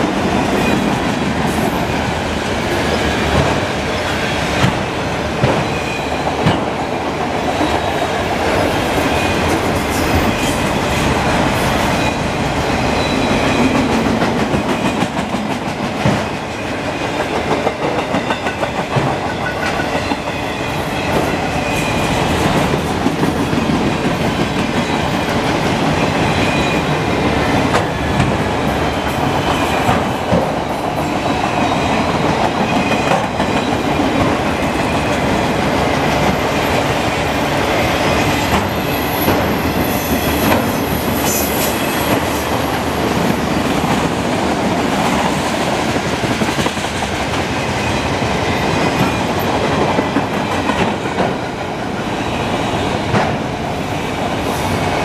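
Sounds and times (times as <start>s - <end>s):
train wheels rolling: 0.0s - 55.0s.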